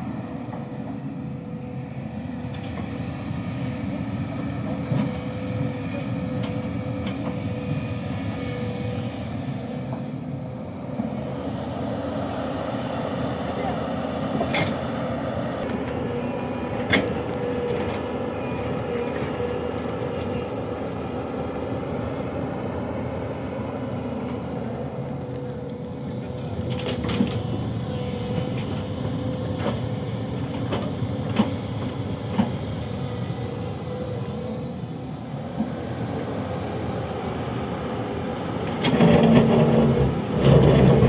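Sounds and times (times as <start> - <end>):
heavy diesel machinery running: 0.0 - 41.0.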